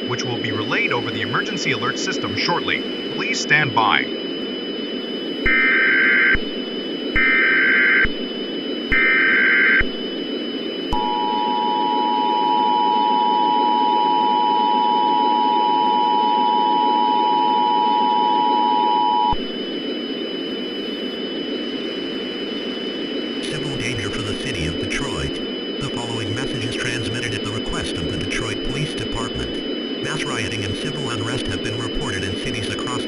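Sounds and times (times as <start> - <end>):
radio static hiss: 0.0 - 13.0, 18.4 - 33.0
buzzy data tone bursts: 0.0 - 33.0.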